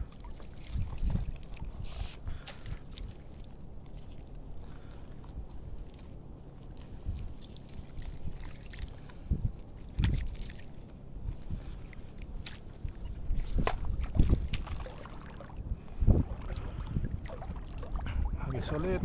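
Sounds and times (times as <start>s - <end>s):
wind and water rumble: 0.0s - 19.0s.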